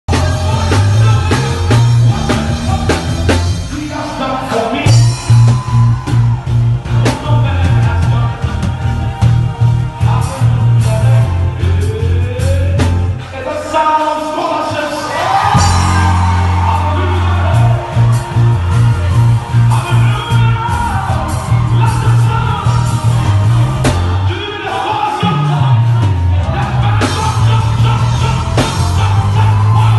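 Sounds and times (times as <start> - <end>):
electric bass guitar: 0.0 - 13.8, 15.2 - 29.9
voices singing along: 0.1 - 13.0, 14.7 - 29.9
drum kit: 0.1 - 13.7, 15.2 - 29.9.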